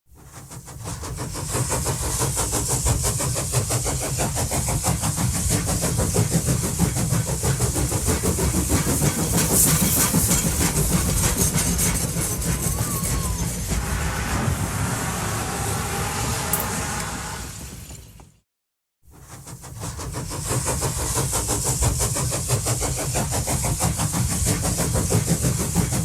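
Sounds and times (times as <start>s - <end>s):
steam locomotive exhaust chuffing: 0.1s - 18.4s, 19.1s - 26.0s
steam hiss: 0.2s - 17.8s, 19.2s - 26.0s.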